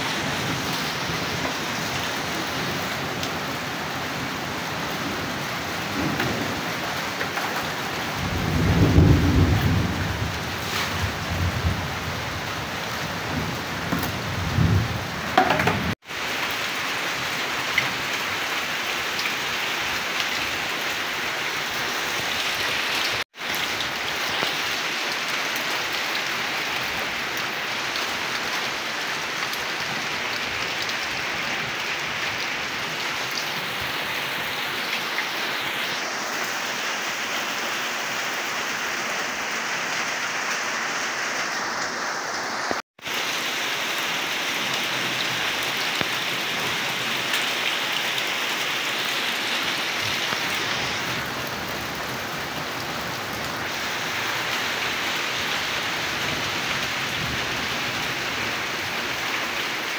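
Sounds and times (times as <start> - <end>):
heavy rain on ground and foliage: 0.0 - 59.9.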